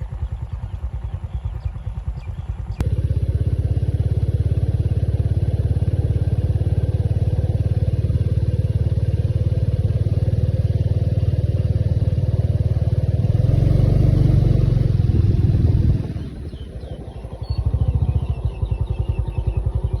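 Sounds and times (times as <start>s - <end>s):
motor running with low pulsing: 0.0s - 20.0s.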